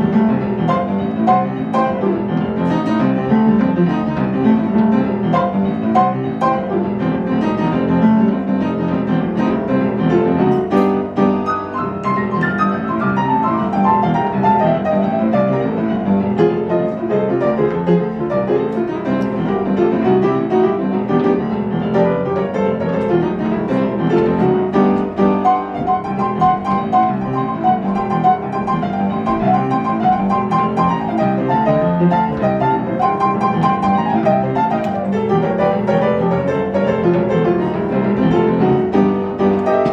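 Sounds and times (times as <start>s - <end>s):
jazz piano playing: 0.0s - 39.9s.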